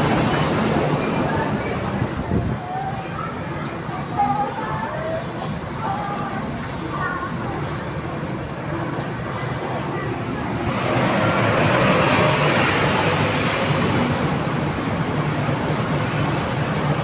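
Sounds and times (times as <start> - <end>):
broad rush of noise: 0.0 - 17.0.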